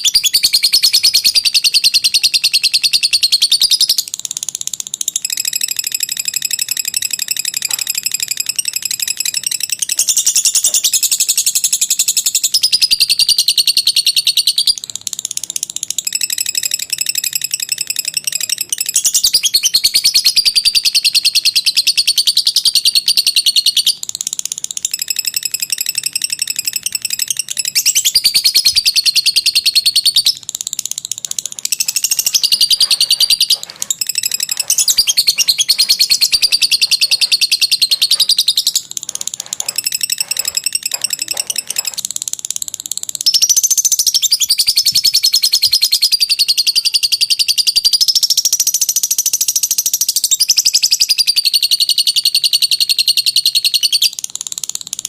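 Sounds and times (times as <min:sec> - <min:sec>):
lovebird chattering trill: 0:00.0 - 0:54.8.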